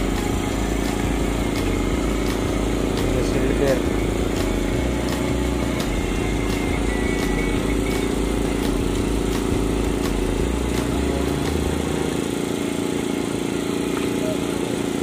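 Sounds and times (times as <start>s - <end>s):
faint music: 0.0s - 12.3s
motor droning: 0.0s - 15.0s.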